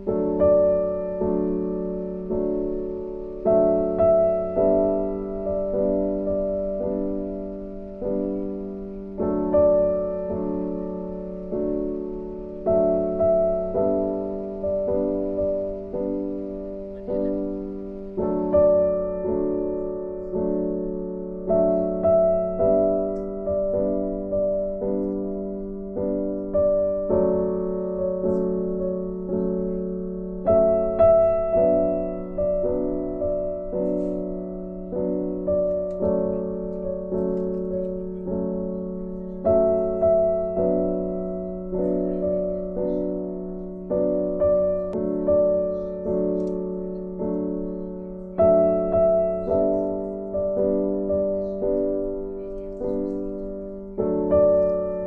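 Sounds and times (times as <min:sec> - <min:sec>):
gentle piano melody: 0:00.0 - 0:55.0.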